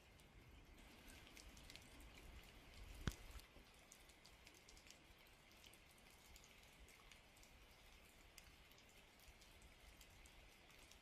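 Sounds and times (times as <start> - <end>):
light rain dripping: 0.0 - 11.0.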